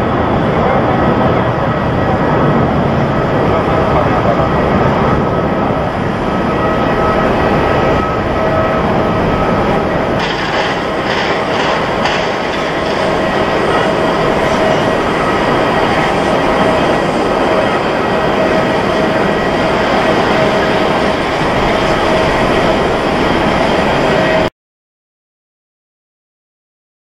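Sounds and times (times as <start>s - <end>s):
jet engines roaring with whine: 0.0s - 24.5s.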